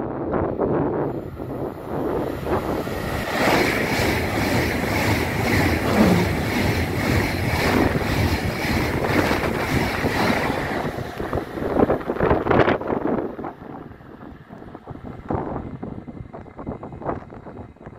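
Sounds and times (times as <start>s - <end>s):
high-speed train passing: 0.0s - 16.0s
wind buffeting microphone: 0.0s - 17.9s.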